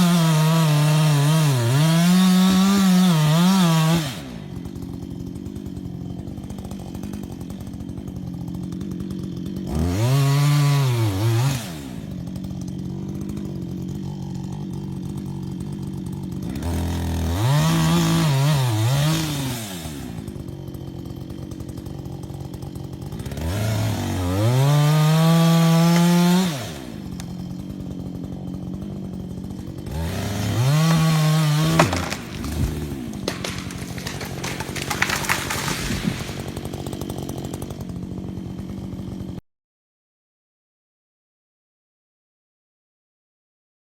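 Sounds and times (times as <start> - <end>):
chainsaw idling and revving: 0.0 - 39.4.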